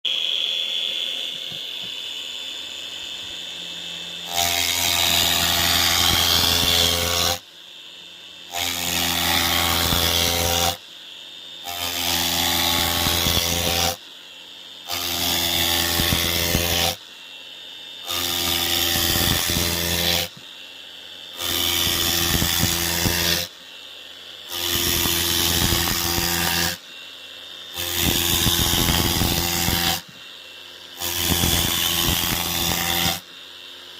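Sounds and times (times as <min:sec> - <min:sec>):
router milling foam: 0:00.1 - 0:33.9.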